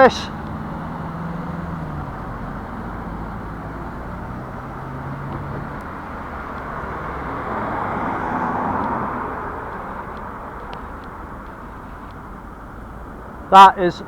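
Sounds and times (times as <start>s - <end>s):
road traffic noise: 0.0s - 14.0s
vehicle passing by: 0.1s - 14.0s.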